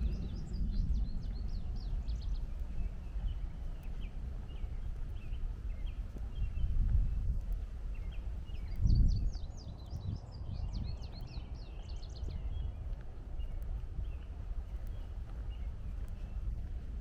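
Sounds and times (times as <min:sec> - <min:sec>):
birds singing: 0:00.0 - 0:17.0
low rumble: 0:00.0 - 0:17.0.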